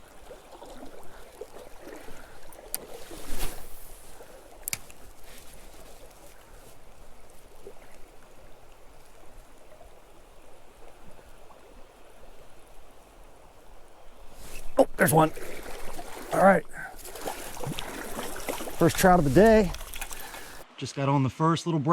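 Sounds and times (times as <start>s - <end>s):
creek water rushing: 0.0s - 20.8s.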